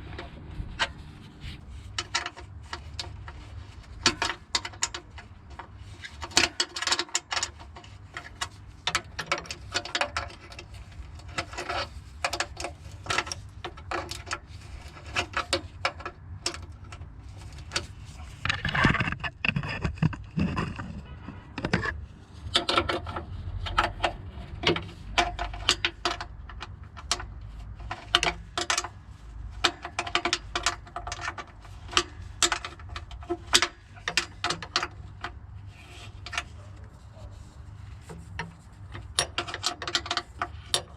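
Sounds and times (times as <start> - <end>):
scraping and clattering: 0.0 - 40.9.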